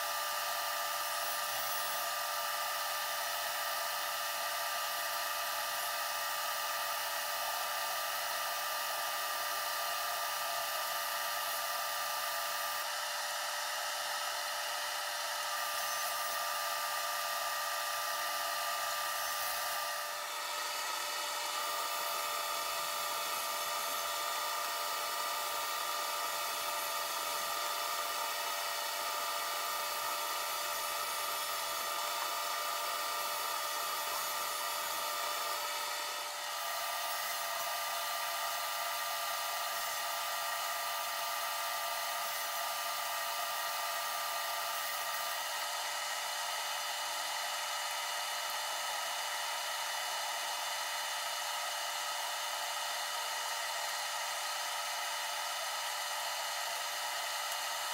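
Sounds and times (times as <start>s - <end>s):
table saw whining: 0.0s - 57.9s.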